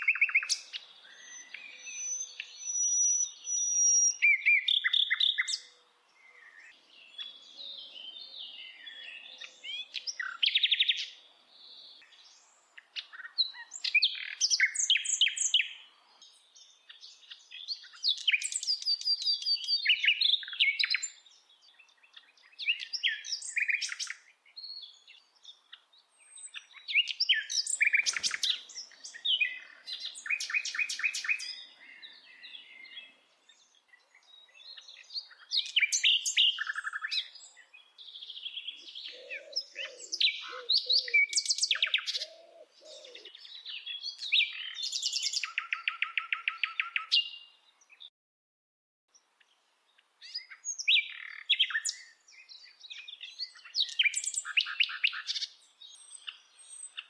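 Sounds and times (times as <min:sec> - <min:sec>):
songbird chirps and trills: 0:00.0 - 0:48.1, 0:49.1 - 0:57.0.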